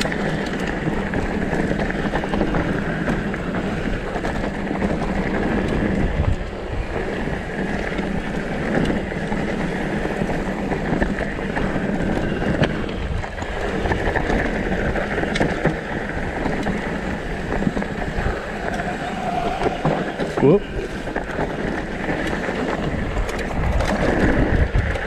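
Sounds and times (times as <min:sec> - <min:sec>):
bike clicks and rattles: 0:00.0 - 0:25.0
bike tyres rumbling on dirt: 0:00.0 - 0:25.0
wind on microphone: 0:00.0 - 0:25.0.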